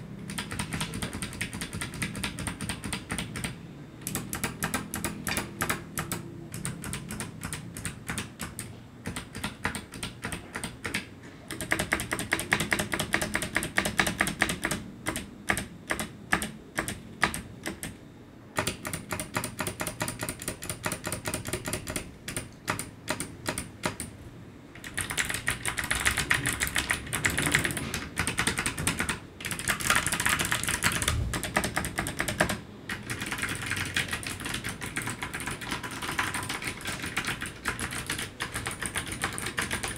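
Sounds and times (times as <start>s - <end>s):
clicky keyboard typing: 0.2s - 18.0s, 18.6s - 24.1s, 24.8s - 39.9s.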